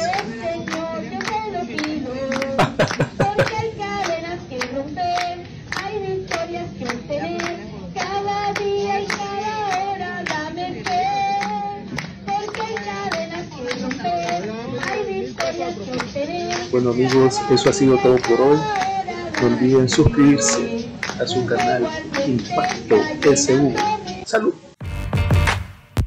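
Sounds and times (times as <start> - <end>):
congregation clapping along: 0.0 - 24.0
woman singing worship song: 0.0 - 24.3.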